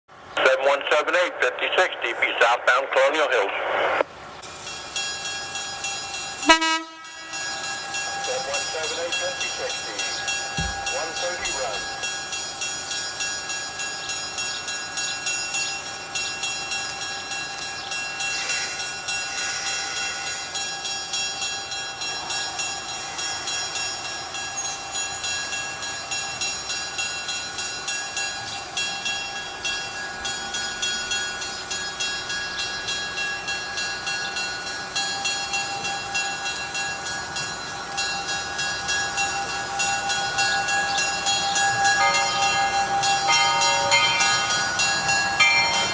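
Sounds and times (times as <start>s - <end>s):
train moving along track: 0.1s - 45.9s
steady high ringing tones: 3.9s - 45.9s.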